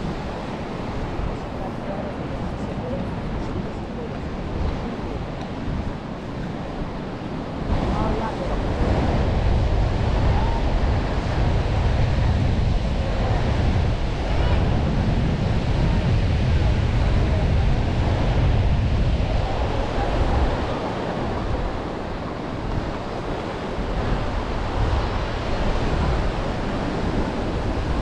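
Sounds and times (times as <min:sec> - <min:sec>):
surf washing onto beach: 0:00.0 - 0:28.0
wind rumbling on microphone: 0:00.0 - 0:28.0.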